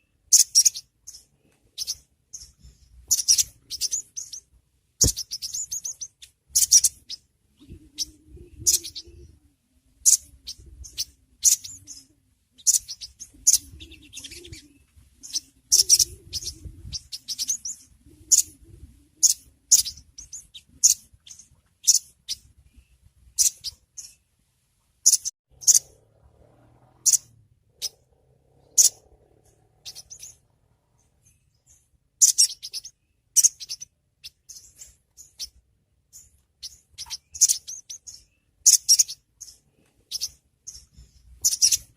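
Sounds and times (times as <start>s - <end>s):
bird chirping: 0.0s - 24.4s, 25.0s - 41.9s.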